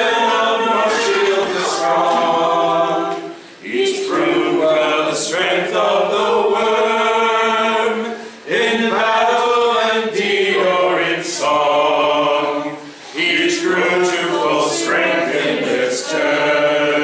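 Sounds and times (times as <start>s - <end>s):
group singing a cappella: 0.0s - 17.0s.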